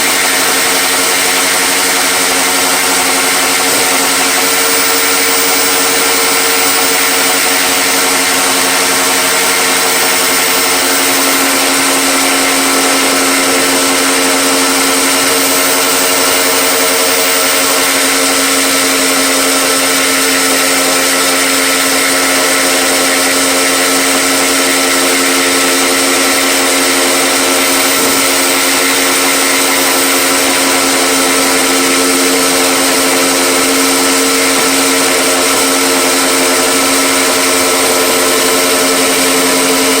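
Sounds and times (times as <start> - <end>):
power tool motor whining: 0.0 - 40.0.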